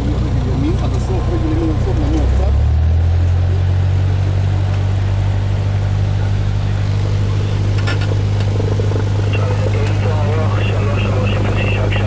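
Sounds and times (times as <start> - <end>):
propeller aircraft engine drone: 0.0 - 12.0.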